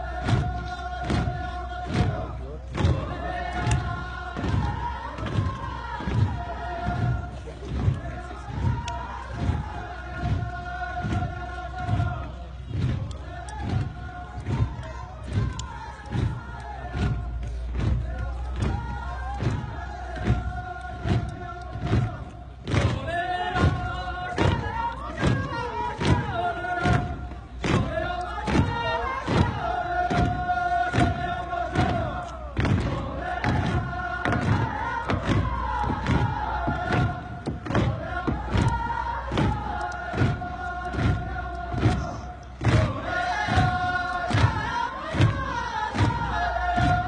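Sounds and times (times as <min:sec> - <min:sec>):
workers chanting work song: 0:00.0 - 0:47.0.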